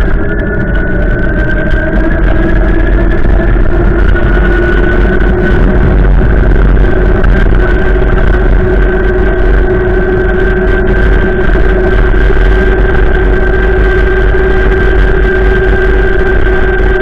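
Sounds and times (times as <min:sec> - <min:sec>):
low hum: 0:00.0 - 0:17.0
strong wind rushing: 0:00.0 - 0:17.0.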